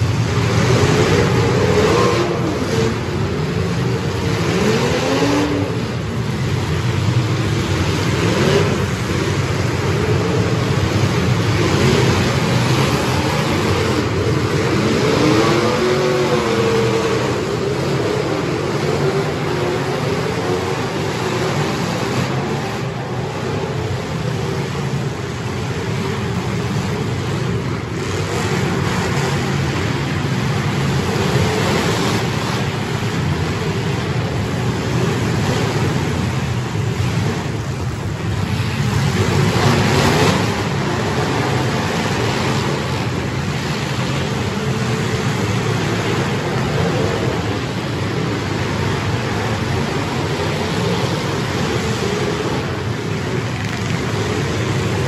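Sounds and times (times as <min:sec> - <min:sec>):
many car engines revving: 0:00.0 - 0:55.0.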